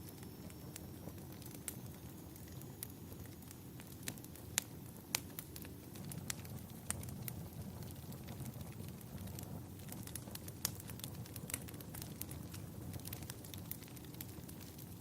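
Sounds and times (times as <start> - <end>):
fire crackling and popping: 0.0 - 15.0
fire flames rumbling: 0.1 - 15.0.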